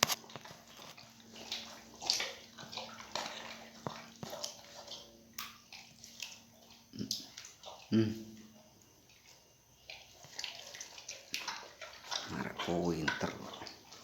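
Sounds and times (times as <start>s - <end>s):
pet wet chewing and smacking: 0.0s - 14.0s.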